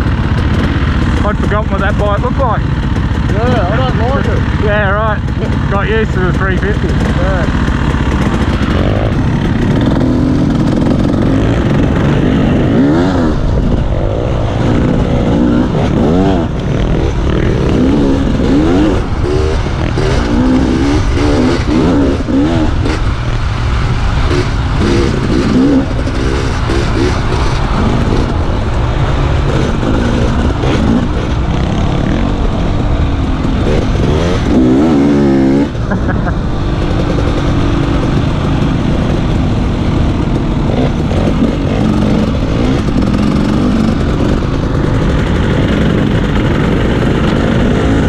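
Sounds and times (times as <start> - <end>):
dirt bike engine revving: 0.0 - 48.0
wind rumble on microphone: 6.4 - 48.0.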